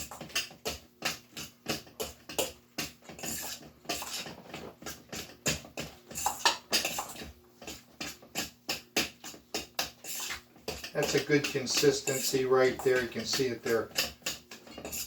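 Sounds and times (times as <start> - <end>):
wet mixture stirred in bowl: 0.0 - 15.0.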